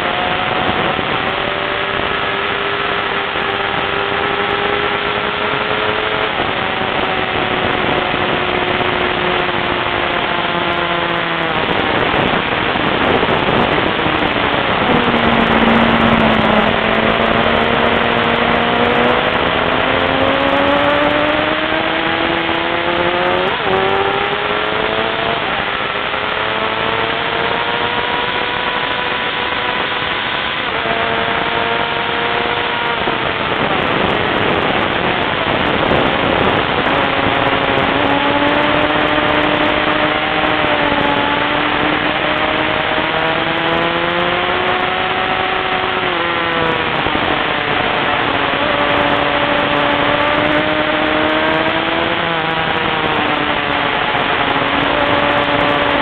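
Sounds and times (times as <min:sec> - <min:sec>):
car engine running hard: 0:00.0 - 0:56.0
wind and road noise: 0:00.0 - 0:56.0.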